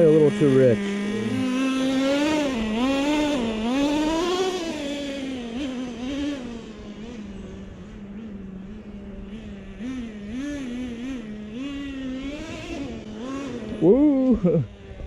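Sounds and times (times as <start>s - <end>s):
small nitro engine running: 0.0s - 15.0s.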